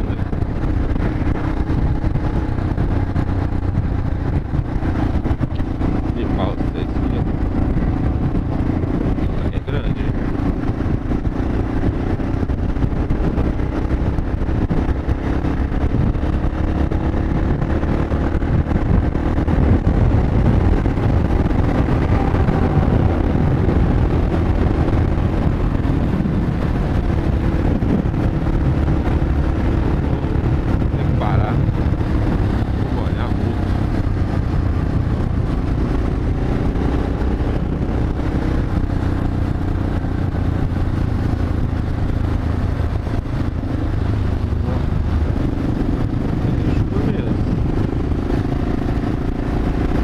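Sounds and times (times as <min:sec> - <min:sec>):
motorcycle engine running: 0:00.0 - 0:50.0
wind rush on microphone: 0:00.0 - 0:50.0.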